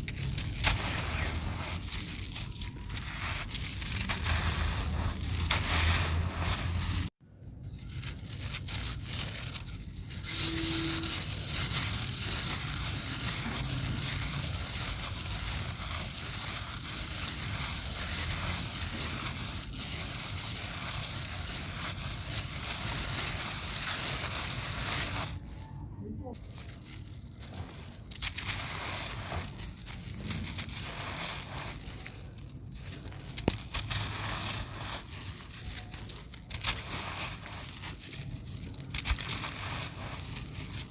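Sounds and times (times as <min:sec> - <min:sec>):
cement crunching and crumbling: 0:00.0 - 0:40.9.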